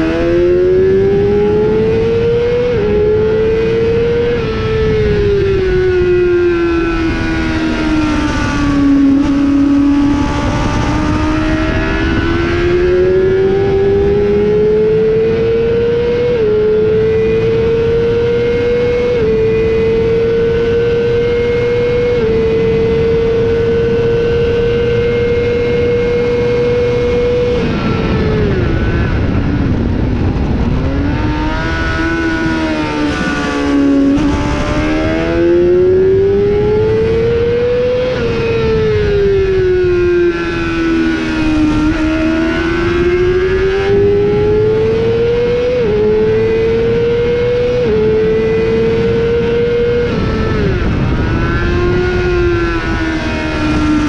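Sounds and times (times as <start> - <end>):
motorcycle engine at high revs: 0.0 - 54.0
wind rushing: 0.0 - 54.0.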